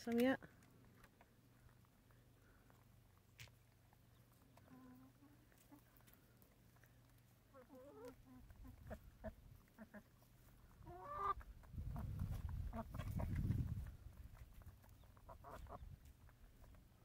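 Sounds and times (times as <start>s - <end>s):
hens clucking softly: 1.0s - 17.0s.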